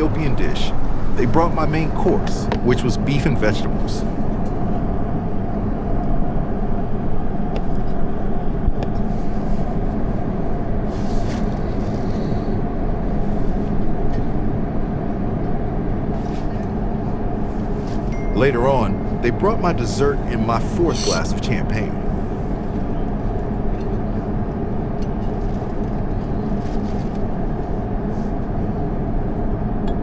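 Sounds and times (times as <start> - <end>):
airliner cabin rumble and hiss: 0.0 - 30.0.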